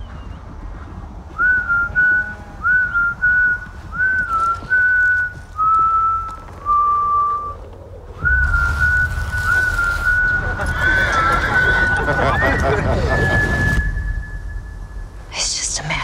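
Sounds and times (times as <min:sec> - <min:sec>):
low rumble: 0:00.0 - 0:16.0
man whistling a slow tune: 0:01.4 - 0:15.1.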